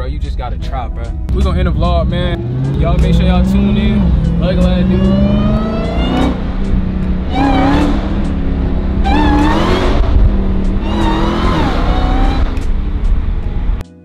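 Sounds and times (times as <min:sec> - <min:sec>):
low engine rumble: 0:00.0 - 0:13.8
car engine revving: 0:01.3 - 0:13.8.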